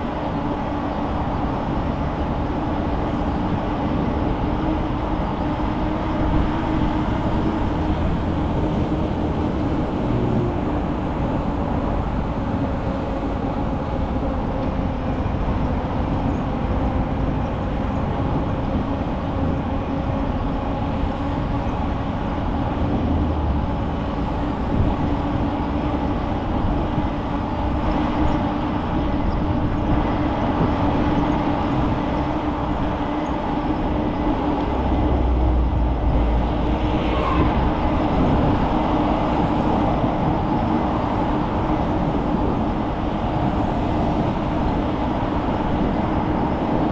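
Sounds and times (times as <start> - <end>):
bicycle tyres humming: 0.0 - 46.9
wind buffeting microphone: 0.0 - 46.9.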